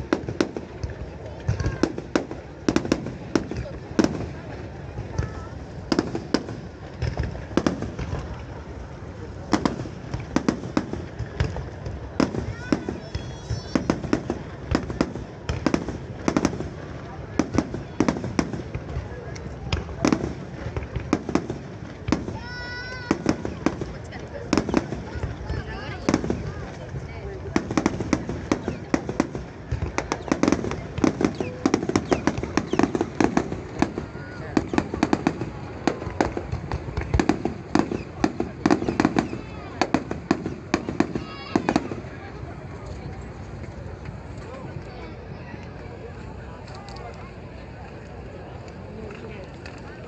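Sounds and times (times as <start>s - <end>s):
fireworks bursting with bangs: 0.0s - 44.5s.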